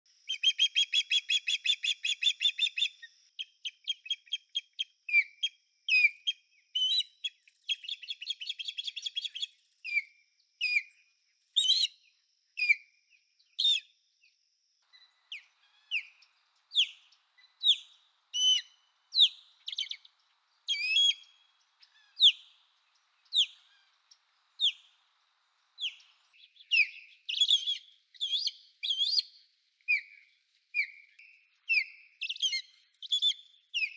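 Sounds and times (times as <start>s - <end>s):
osprey whistled chirps: 0.2s - 11.0s, 11.6s - 12.0s, 13.5s - 13.9s, 14.8s - 25.0s, 25.8s - 30.2s, 30.8s - 33.9s.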